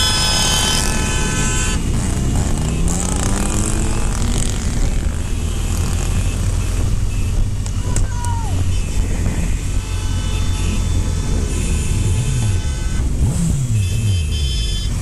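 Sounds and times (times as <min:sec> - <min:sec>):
multi-tone horn blaring: 0:00.0 - 0:07.6, 0:08.6 - 0:15.0
wind and road noise: 0:00.0 - 0:15.0.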